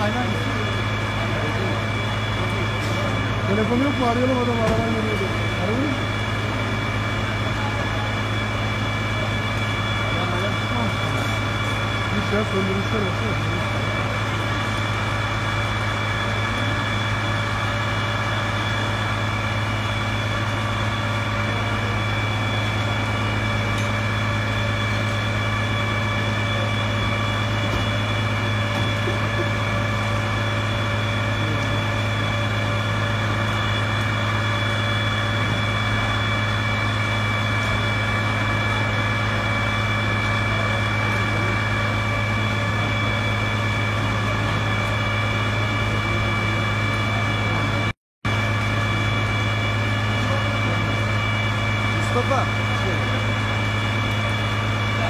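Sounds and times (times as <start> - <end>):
fire engine pump motor droning: 0.0 - 55.0.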